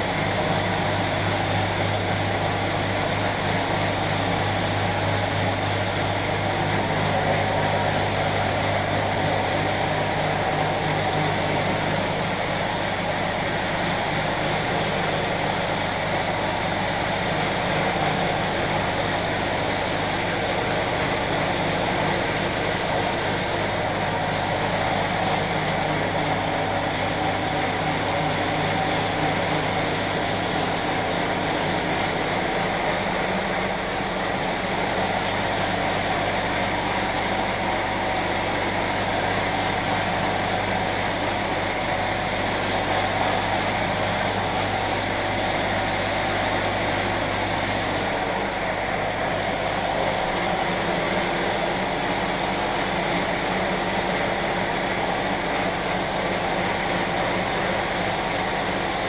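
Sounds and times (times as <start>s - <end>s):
spray gun air hiss: 0.0s - 59.0s.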